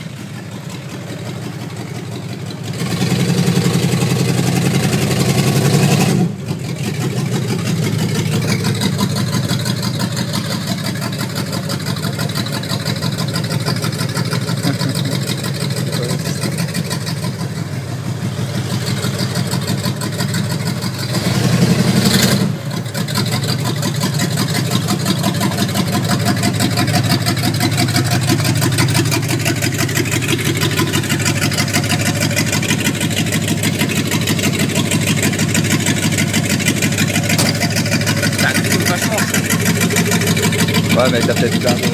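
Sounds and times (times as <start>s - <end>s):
car engine rumbling: 0.0s - 41.9s.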